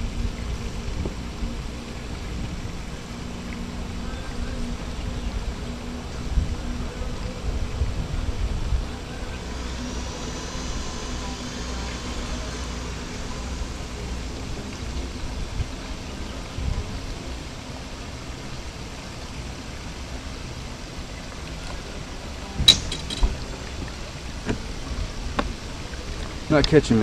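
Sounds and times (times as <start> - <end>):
distant motorboat hum: 0.0 - 27.0
steady outdoor hiss: 0.0 - 27.0.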